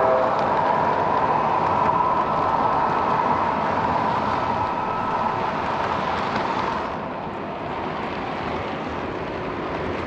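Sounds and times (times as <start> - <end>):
model train wheels rolling on track: 0.0 - 10.0.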